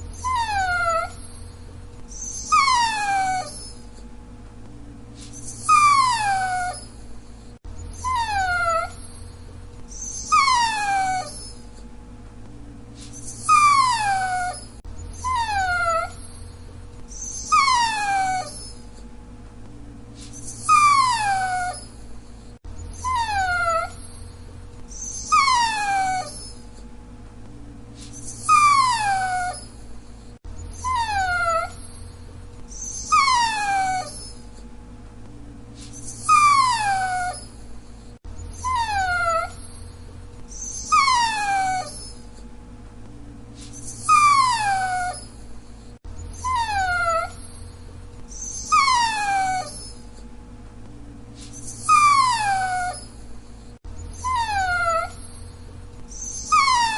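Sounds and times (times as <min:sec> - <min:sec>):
dog whining: 0:00.0 - 0:04.1, 0:05.2 - 0:11.9, 0:13.0 - 0:19.1, 0:20.2 - 0:26.9, 0:28.0 - 0:34.7, 0:35.8 - 0:42.5, 0:43.6 - 0:50.3, 0:51.4 - 0:56.9.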